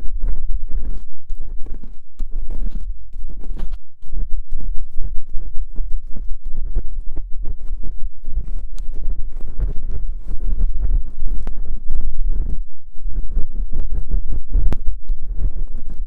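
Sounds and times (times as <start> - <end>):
ear pick scraping and tapping: 0.0 - 16.0.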